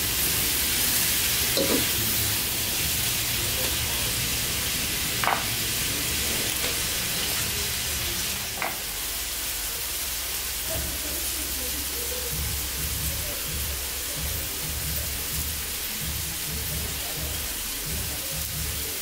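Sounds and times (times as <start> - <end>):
onions and fish sizzling in oil: 0.0 - 19.0.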